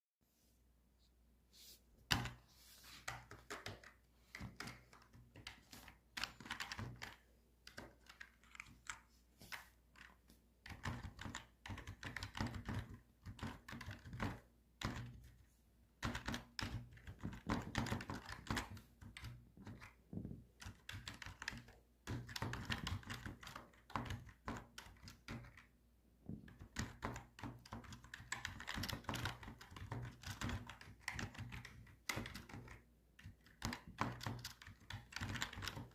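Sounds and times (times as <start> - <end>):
typing on computer keyboard: 3.1 - 15.4, 16.0 - 25.8, 26.4 - 35.9.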